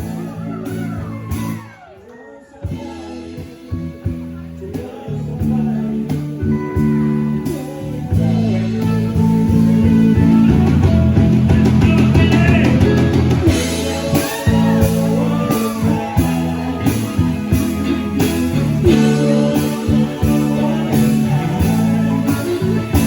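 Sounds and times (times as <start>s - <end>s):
drums: 0.0s - 2.0s, 2.6s - 23.0s
guitar: 0.0s - 23.0s.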